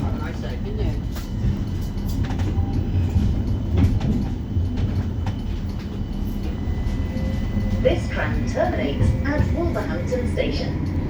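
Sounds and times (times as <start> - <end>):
tram interior rumble: 0.0 - 11.0.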